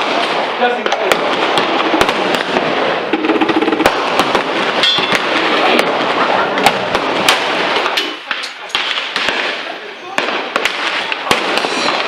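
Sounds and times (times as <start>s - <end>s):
gunshots: 0.0s - 12.0s
steady din of gunfire: 0.0s - 12.0s.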